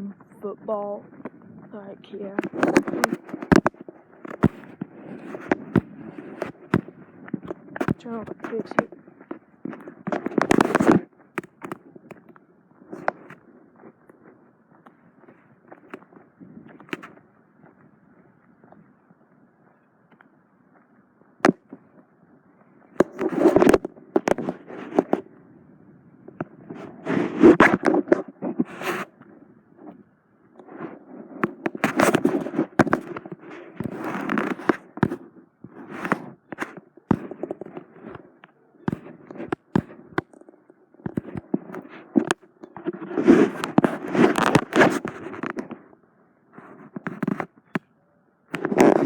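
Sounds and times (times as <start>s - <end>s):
crackling scraping rustles: 0.0s - 47.9s, 48.5s - 49.0s.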